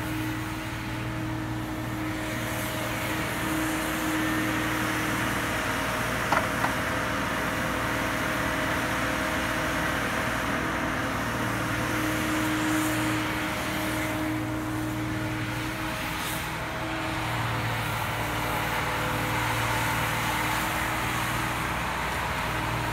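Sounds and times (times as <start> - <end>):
diesel engine running under load: 0.0 - 22.9.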